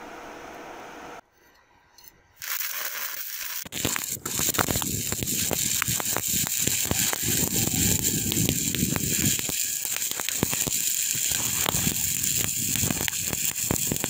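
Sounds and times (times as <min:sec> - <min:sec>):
welding arc crackling and popping: 0:02.4 - 0:14.0.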